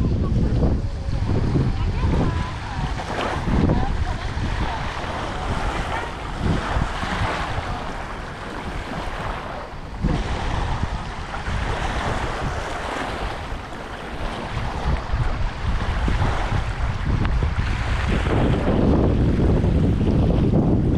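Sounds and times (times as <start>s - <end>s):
wind buffeting microphone: 0.0s - 20.9s
waves lapping on pebbles: 1.4s - 20.3s.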